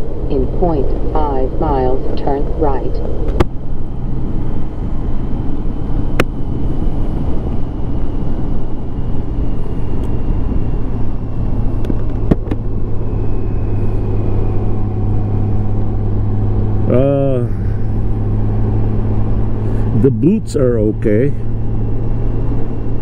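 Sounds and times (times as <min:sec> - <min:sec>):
motorcycle engine hum: 0:00.0 - 0:23.0
wind and road noise: 0:00.0 - 0:23.0.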